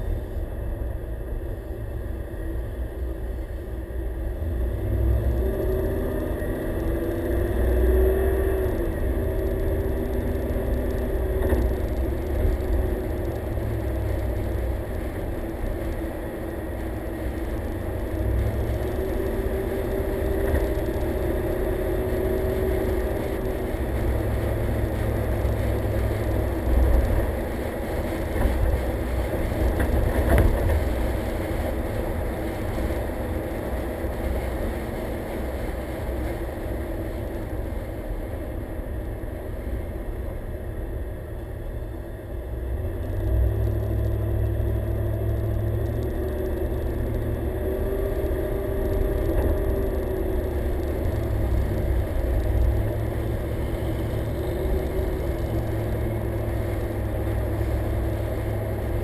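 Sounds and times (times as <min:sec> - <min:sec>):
faint hum: 0:00.0 - 0:34.8, 0:36.3 - 0:59.0
car engine and road rumble: 0:00.0 - 0:59.0.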